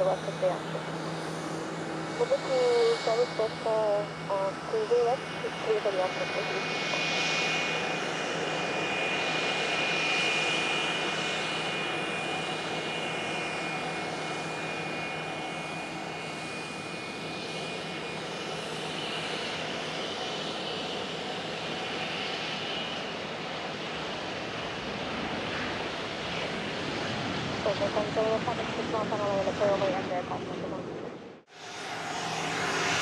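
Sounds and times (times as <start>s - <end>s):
jet engines rushing and whining: 0.0s - 33.0s.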